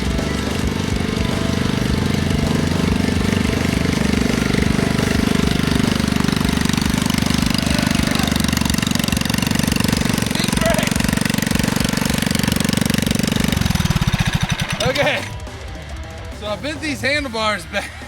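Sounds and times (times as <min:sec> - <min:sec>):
small engine puttering: 0:00.0 - 0:18.0.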